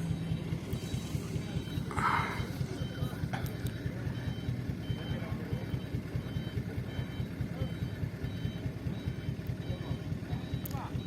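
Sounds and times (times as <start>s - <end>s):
reversing alarm beeping: 0.0s - 11.0s
truck engine running: 0.0s - 11.0s.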